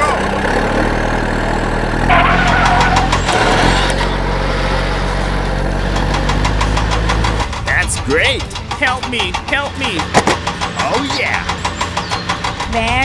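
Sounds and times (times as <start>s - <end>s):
vehicle engine running: 0.0s - 13.0s
quick ticking clatter: 2.3s - 13.0s.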